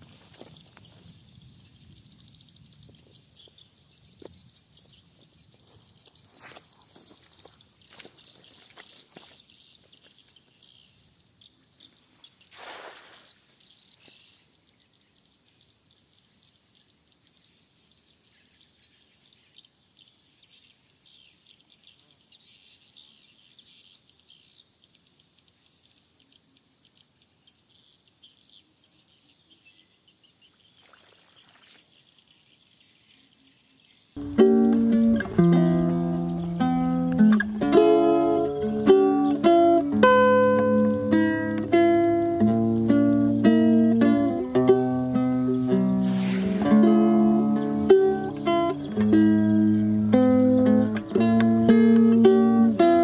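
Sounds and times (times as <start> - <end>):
birds chirping: 0.0 - 53.0
insects chirping: 0.0 - 53.0.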